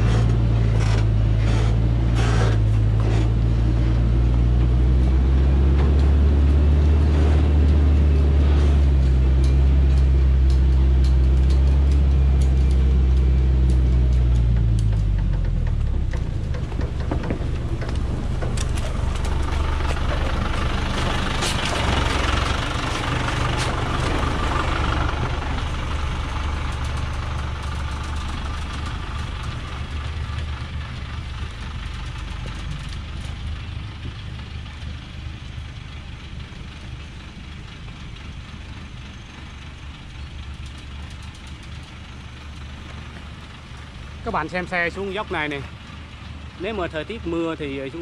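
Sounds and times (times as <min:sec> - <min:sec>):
truck diesel engine running: 0:00.0 - 0:48.0.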